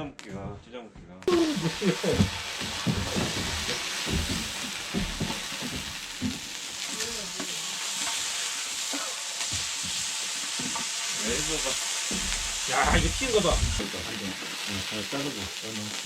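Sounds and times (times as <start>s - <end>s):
food sizzling in hot oil: 1.3s - 16.0s.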